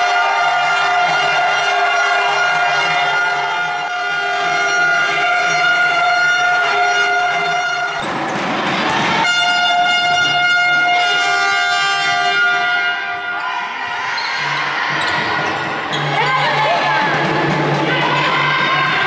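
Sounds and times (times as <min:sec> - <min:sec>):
air horns blowing: 0:00.0 - 0:15.3
crowd noise: 0:00.0 - 0:19.0.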